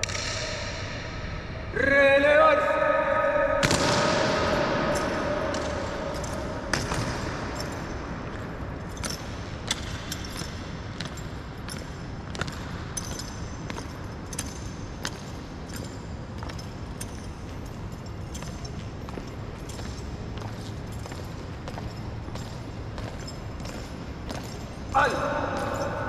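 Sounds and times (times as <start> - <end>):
loud stamp echoing: 2.6 - 26.0
boots marching on hard floor: 4.4 - 26.0.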